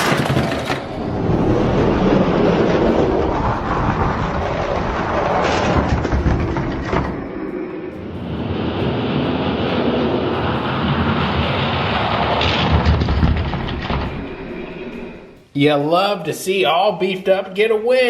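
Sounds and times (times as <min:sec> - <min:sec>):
toy trucks rolling on plastic track: 0:00.0 - 0:15.3.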